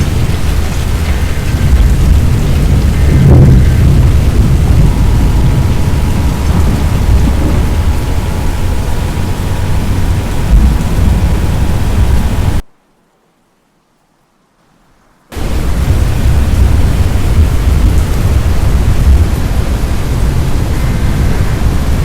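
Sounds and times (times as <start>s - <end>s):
deep thunder rumble: 0.0s - 12.6s, 15.4s - 22.0s
heavy rain: 0.0s - 12.7s, 14.4s - 22.0s.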